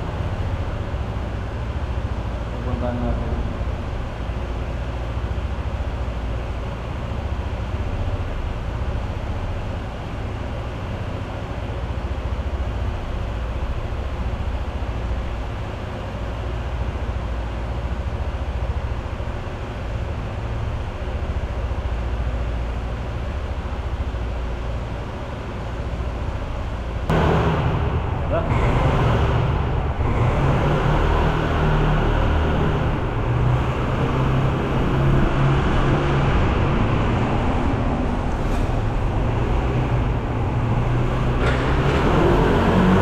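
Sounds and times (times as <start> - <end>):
vehicle rumble: 0.0 - 43.0.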